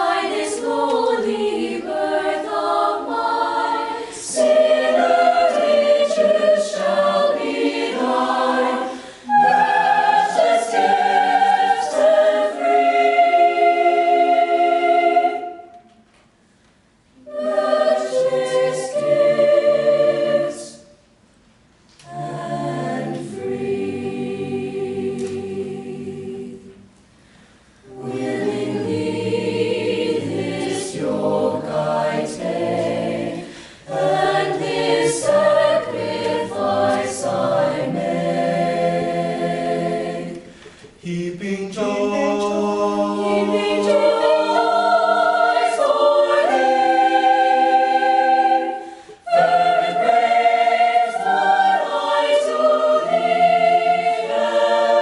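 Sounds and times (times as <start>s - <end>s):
choir singing in parts: 0.0s - 16.0s, 17.2s - 21.0s, 22.0s - 27.0s, 27.8s - 55.0s.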